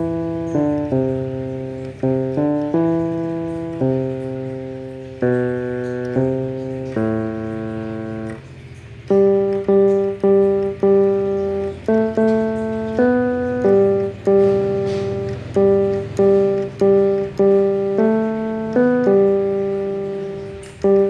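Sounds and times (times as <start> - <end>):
electronic keyboard melody: 0.0 - 21.0.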